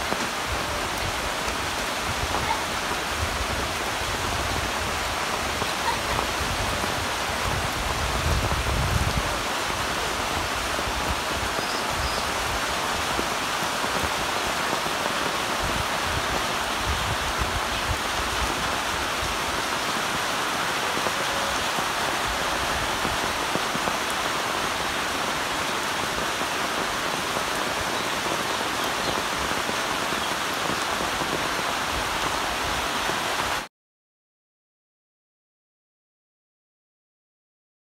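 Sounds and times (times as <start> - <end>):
water rushing in a rivulet: 0.0 - 33.7.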